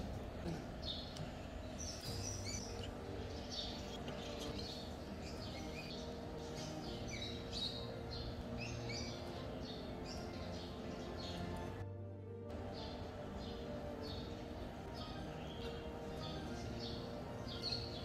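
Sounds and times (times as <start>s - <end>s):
small birds chirping: 0.0s - 11.9s, 12.5s - 18.0s
faint low background noise: 0.0s - 18.0s.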